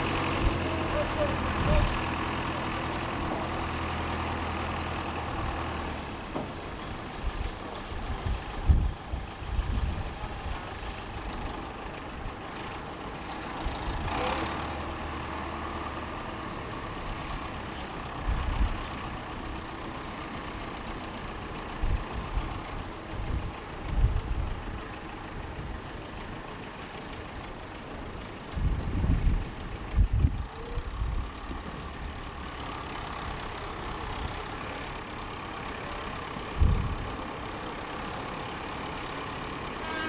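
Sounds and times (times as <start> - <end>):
locomotive engine humming: 0.0 - 40.0.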